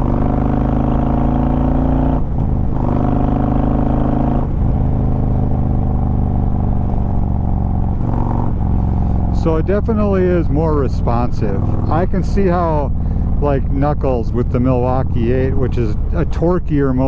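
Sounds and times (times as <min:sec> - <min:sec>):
motorcycle engine under throttle: 0:00.0 - 0:17.0.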